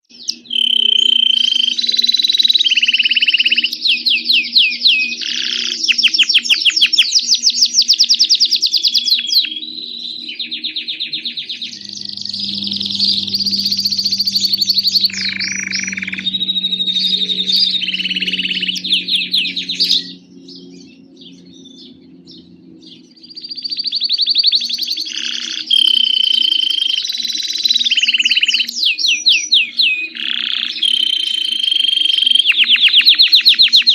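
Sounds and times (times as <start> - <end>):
canary singing trills: 0.0 - 33.9
faint steady hum: 0.1 - 28.9, 29.6 - 33.2.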